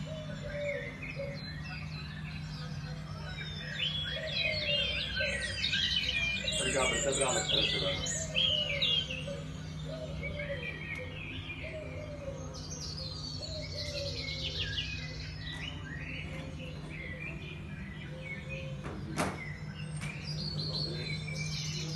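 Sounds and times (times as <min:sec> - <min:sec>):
birds chirping and singing: 0:00.0 - 0:21.9
steady low hum: 0:00.0 - 0:21.9.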